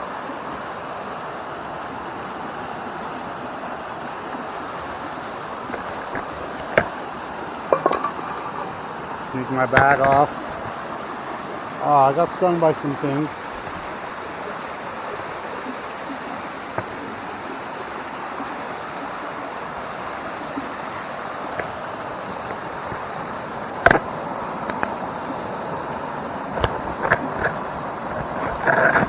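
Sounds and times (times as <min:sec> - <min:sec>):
stream and waterfall rushing: 0:00.0 - 0:29.0.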